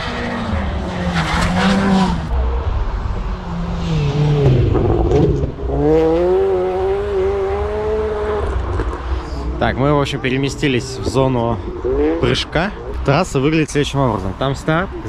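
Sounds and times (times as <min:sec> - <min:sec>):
rally car engine at high revs: 0:00.0 - 0:02.4, 0:03.2 - 0:13.0.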